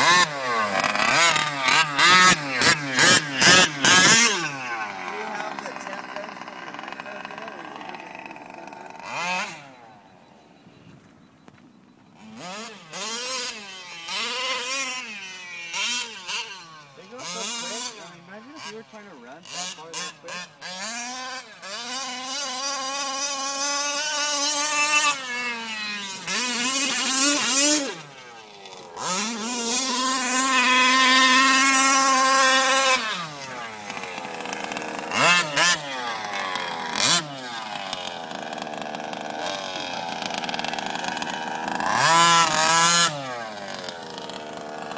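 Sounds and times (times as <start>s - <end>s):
rc truck engine revving: 0.0s - 44.9s.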